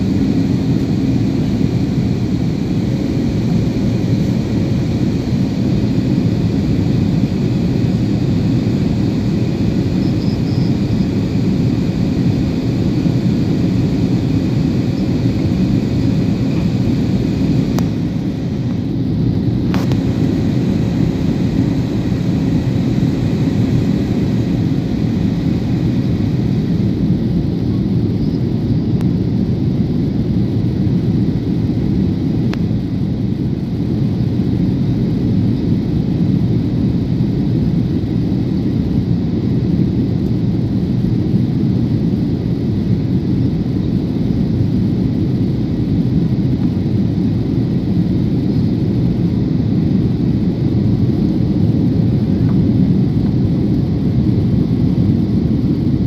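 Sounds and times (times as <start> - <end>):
airliner cabin engine rush: 0.0 - 56.0.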